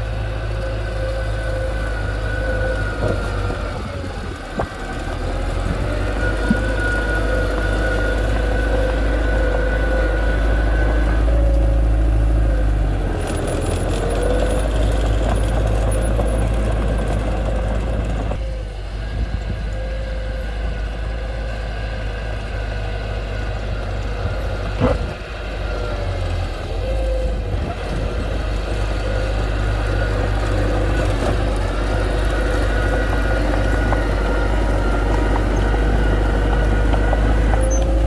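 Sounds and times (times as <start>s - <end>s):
heavy machinery diesel engine: 0.0s - 38.0s
steady whine: 0.0s - 38.0s.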